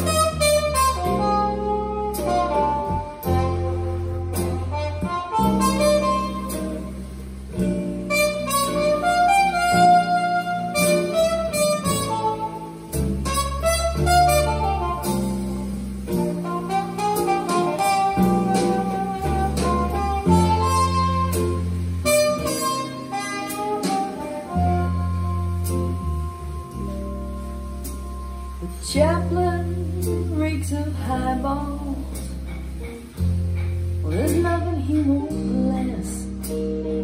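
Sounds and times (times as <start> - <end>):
instrumental music over speakers: 0.0 - 37.0.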